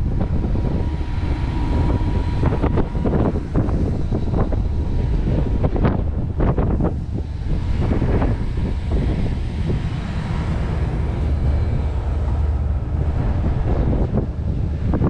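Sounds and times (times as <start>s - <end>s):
boat engine low rumble: 0.0s - 15.0s
wind buffeting microphone: 0.0s - 15.0s.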